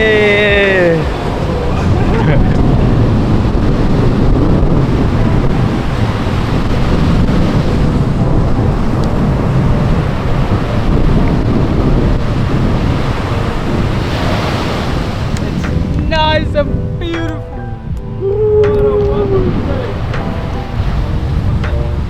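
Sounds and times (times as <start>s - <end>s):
surf washing on beach: 0.0s - 22.0s
wind buffeting microphone: 0.0s - 22.0s.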